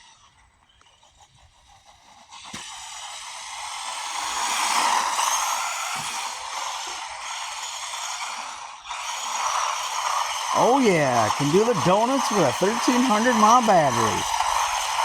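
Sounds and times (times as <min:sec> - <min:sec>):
electric motor whining: 0:02.4 - 0:15.0.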